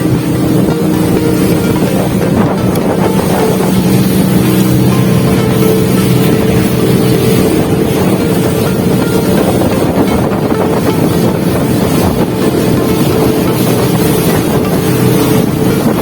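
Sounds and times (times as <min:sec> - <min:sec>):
boat engine humming: 0:00.0 - 0:16.0
wind buffeting the microphone: 0:00.0 - 0:16.0.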